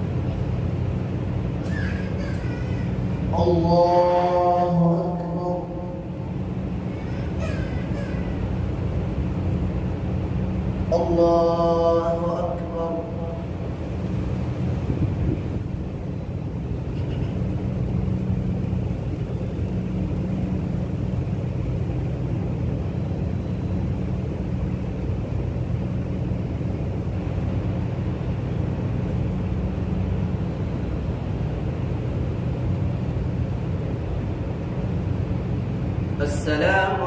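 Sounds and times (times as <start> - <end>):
mains hum: 0.0 - 37.0.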